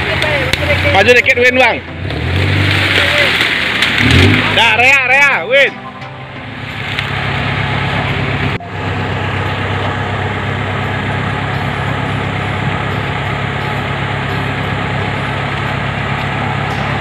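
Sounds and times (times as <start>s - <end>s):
engine running at low revs: 0.0s - 5.1s, 6.4s - 17.0s.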